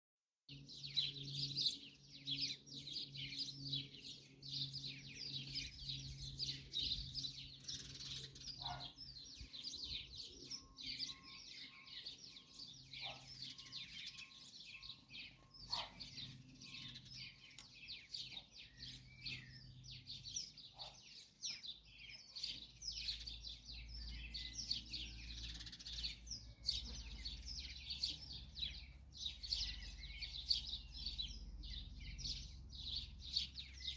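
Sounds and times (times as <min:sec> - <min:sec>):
songbirds chirping and trilling: 0:00.5 - 0:33.9.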